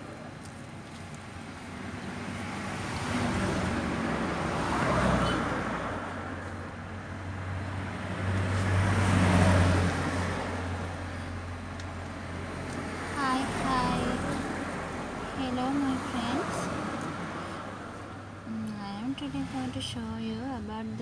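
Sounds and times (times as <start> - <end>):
vehicles passing: 0.0 - 21.0.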